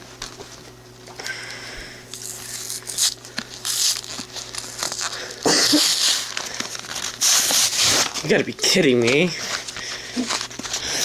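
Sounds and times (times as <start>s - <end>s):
plastic packaging crinkling: 2.1s - 11.0s.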